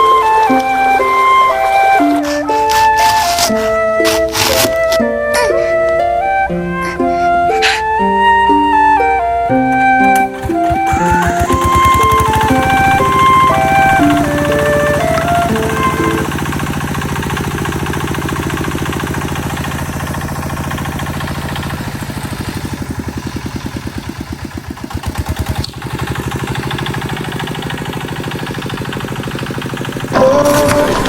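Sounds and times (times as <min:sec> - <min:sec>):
small boat engine running: 0:00.0 - 0:31.0.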